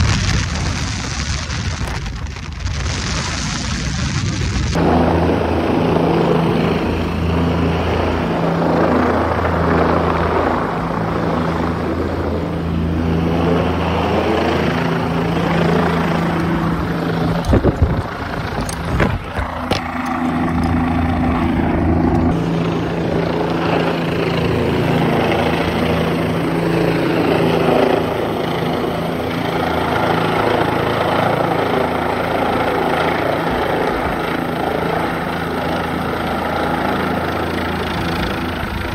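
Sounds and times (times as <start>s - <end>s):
helicopter hovering: 0.0s - 38.9s.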